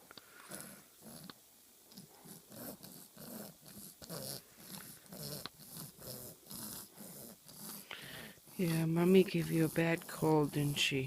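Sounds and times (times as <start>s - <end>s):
baby grunting snuffly breaths: 2.0s - 10.9s.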